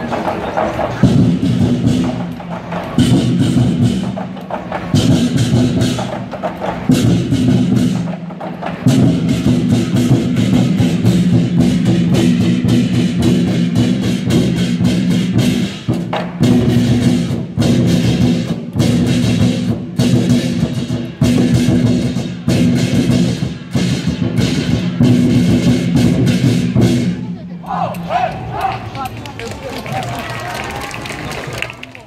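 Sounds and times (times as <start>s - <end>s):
barrel drums beaten fast: 0.0s - 27.2s.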